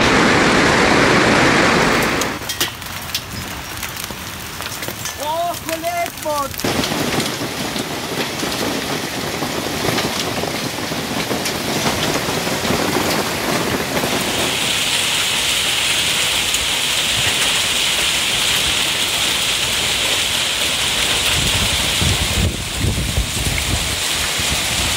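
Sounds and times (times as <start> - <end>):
hail and rain pattering: 0.0 - 24.9.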